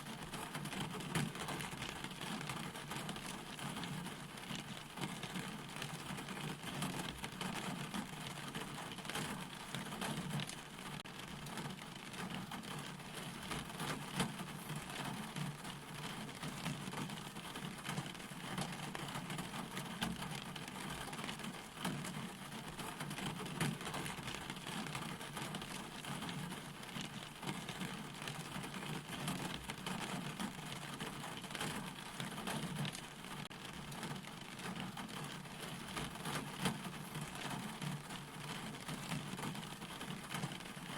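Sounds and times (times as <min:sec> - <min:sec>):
rain patter: 0:00.0 - 0:40.9.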